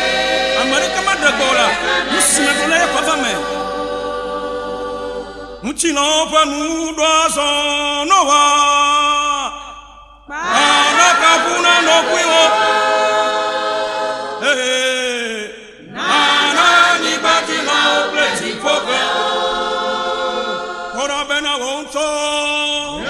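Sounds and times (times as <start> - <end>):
choir singing: 0.0 - 5.9, 10.3 - 23.0.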